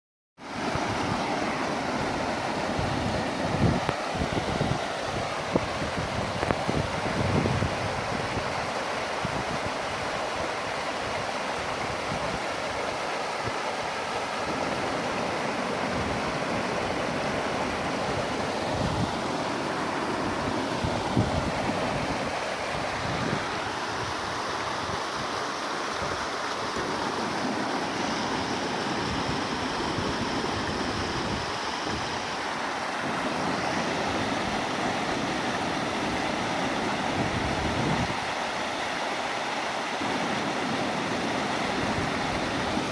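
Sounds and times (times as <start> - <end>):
waterfall rushing: 0.4 - 42.9.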